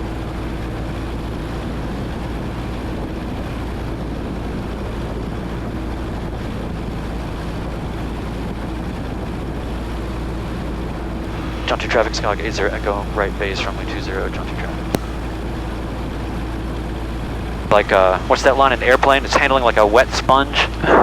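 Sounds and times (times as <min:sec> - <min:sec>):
airplane engine and propeller drone: 0:00.0 - 0:21.0.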